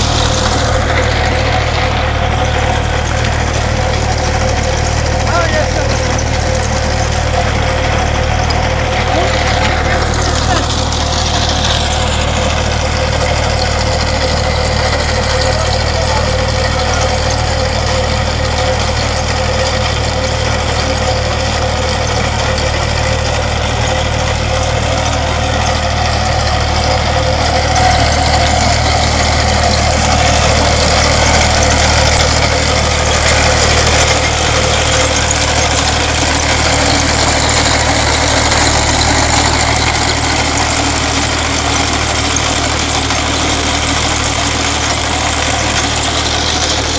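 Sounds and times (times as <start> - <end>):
trenching machine engine running: 0.0 - 46.9.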